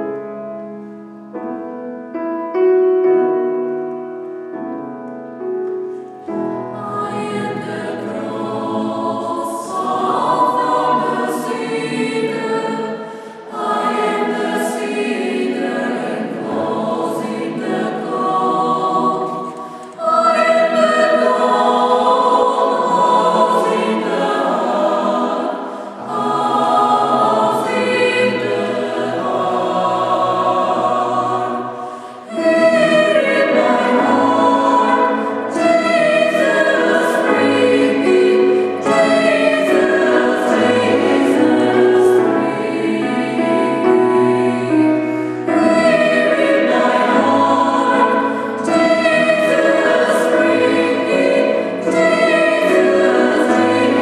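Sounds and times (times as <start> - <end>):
grand piano accompaniment: 0.0 - 54.0
mixed choir singing: 6.2 - 54.0.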